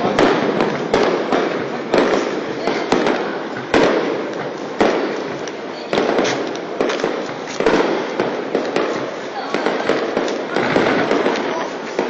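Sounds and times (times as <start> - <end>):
firework bangs with rolling echo: 0.0 - 12.0.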